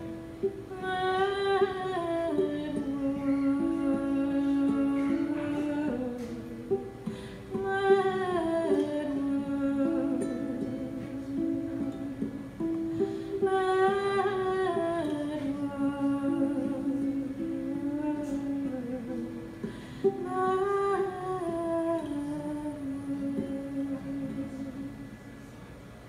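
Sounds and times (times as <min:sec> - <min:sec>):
woman humming a melody: 0:00.0 - 0:25.2
plucked string instrument: 0:00.0 - 0:25.7.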